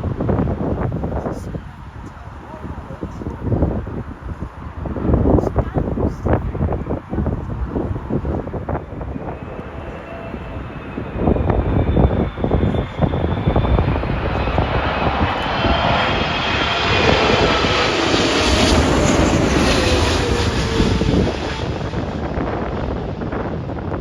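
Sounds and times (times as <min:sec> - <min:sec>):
jet engine whine and roar: 0:00.0 - 0:24.0
wind buffeting microphone: 0:00.0 - 0:24.0.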